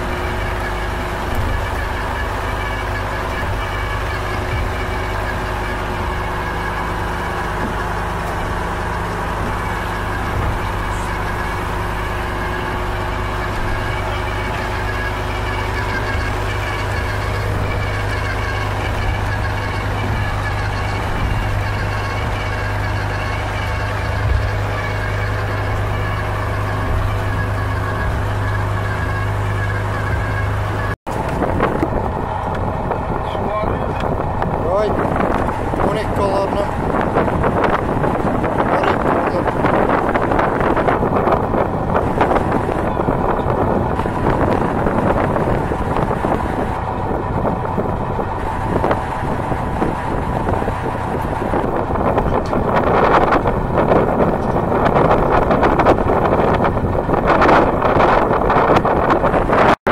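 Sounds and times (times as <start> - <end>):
boat engine humming: 0.0 - 59.9
wind buffeting microphone: 0.0 - 59.9.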